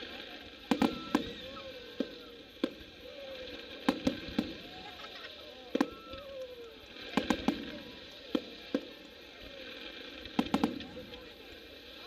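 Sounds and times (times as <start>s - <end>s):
firework shells bursting: 0.0s - 11.3s.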